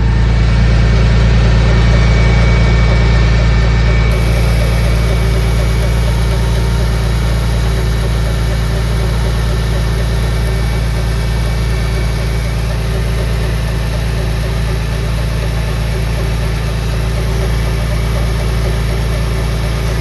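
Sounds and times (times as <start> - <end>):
engine idling: 0.0 - 20.0
fast regular ticking: 1.1 - 20.0.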